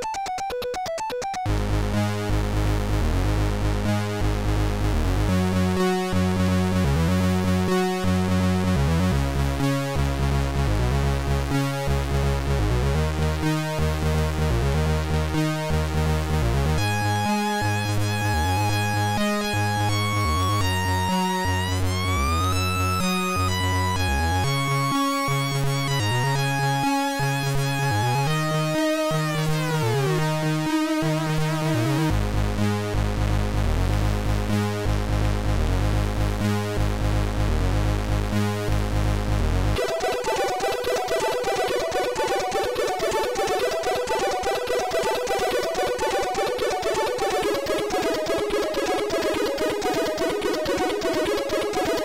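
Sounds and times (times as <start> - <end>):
sliding chiptune lead melody: 0.0 - 32.2, 39.6 - 52.0
pulsing chiptune bass line: 0.0 - 52.0.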